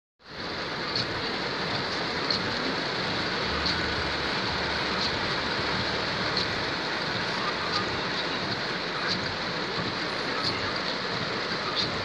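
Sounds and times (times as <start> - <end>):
heavy rain on car windshield: 0.2 - 12.0.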